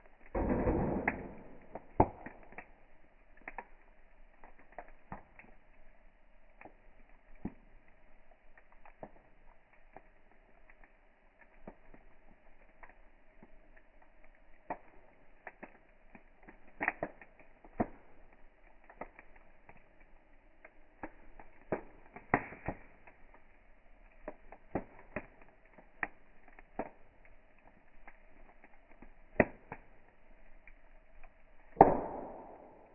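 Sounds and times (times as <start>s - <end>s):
wood campfire crackling: 0.0s - 32.9s.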